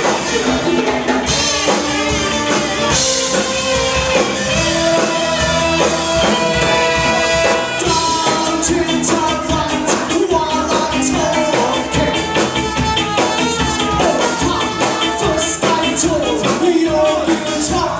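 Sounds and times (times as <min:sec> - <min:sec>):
horns holding long notes: 0:00.0 - 0:09.6, 0:10.2 - 0:16.4
drums cymbal beat: 0:00.0 - 0:17.9
live ska band playing: 0:00.0 - 0:17.9.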